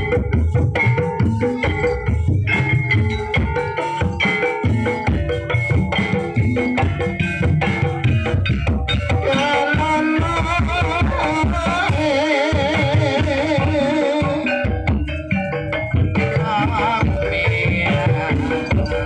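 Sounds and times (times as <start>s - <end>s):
gamelan ensemble: 0.0s - 19.0s
hand drums rhythm: 0.0s - 19.0s
wavering vibrato melody: 0.0s - 19.0s.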